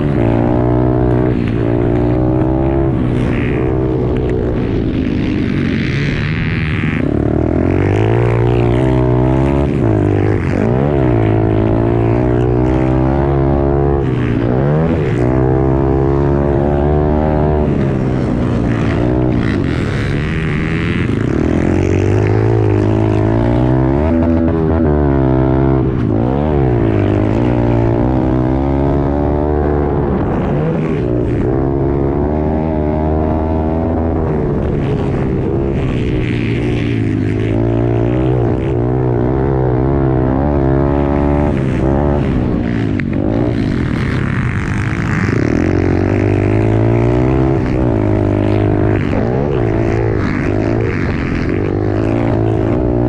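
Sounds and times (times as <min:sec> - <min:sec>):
small motorbike engine revving: 0:00.0 - 0:53.0
wind and ground noise: 0:00.0 - 0:53.0.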